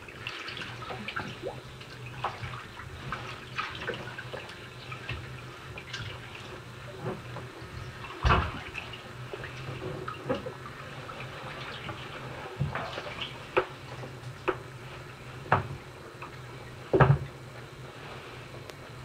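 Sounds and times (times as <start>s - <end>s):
bathwater sloshing and splashing: 0.0s - 19.0s.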